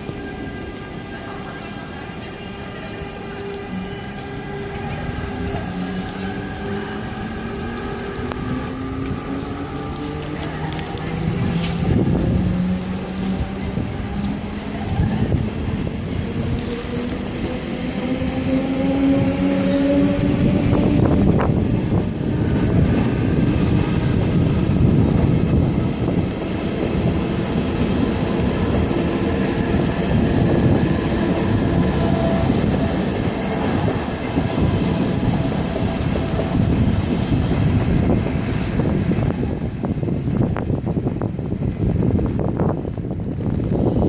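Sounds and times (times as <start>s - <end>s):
train rumbling past: 0.0s - 44.0s.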